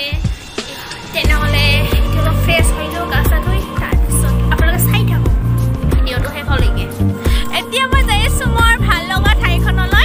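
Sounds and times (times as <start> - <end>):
music with bass-heavy beat: 0.0 - 10.0.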